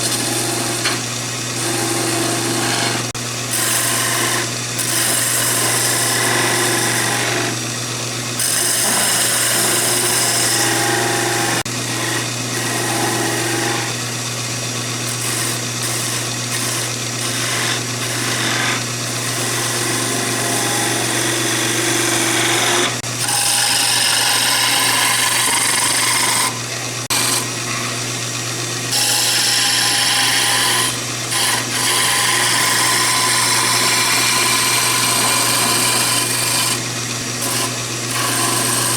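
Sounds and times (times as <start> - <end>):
turning tool cutting wood: 0.0 - 38.9
wood lathe motor hum: 0.0 - 38.9.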